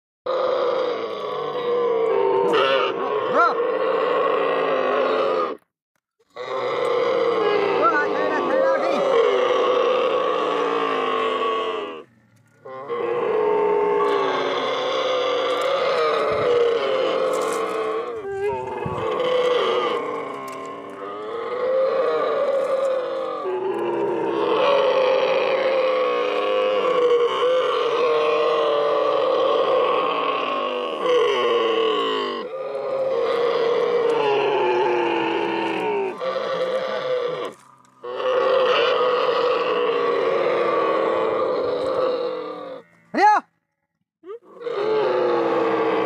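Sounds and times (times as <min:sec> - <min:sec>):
camels groaning: 0:00.3 - 0:05.6, 0:06.2 - 0:43.4, 0:44.2 - 0:46.0.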